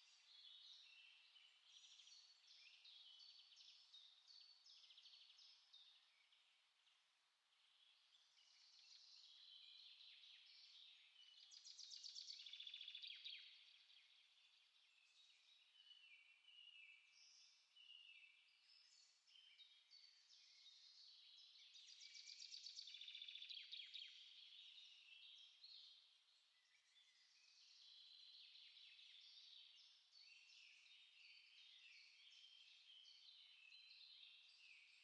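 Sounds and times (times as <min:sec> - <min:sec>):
songbirds chirping and singing: 0:00.0 - 0:35.0.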